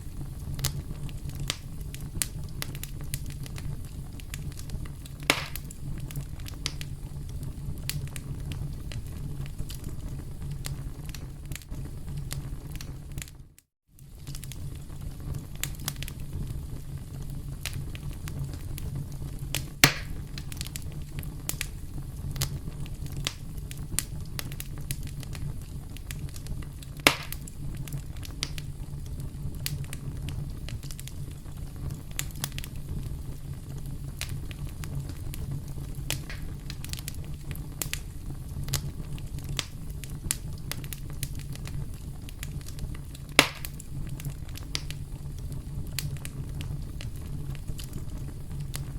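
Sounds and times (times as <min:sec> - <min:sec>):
burning wood rumble: 0:00.0 - 0:48.9
fire pops and snaps: 0:00.0 - 0:48.9
loud sharp fire pops: 0:00.1 - 0:13.4, 0:14.0 - 0:48.9.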